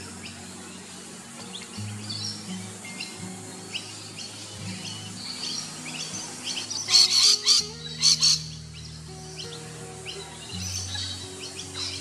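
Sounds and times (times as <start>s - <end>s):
bird calling: 0.0s - 12.0s
soft background music: 0.0s - 12.0s.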